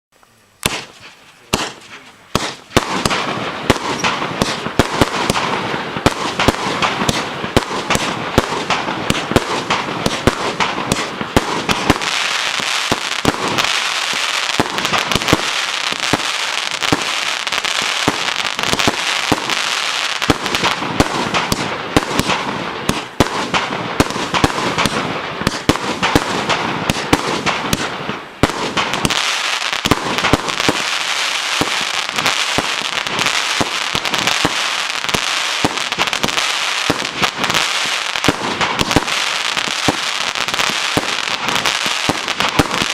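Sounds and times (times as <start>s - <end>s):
fireworks barrage: 0.5s - 42.9s.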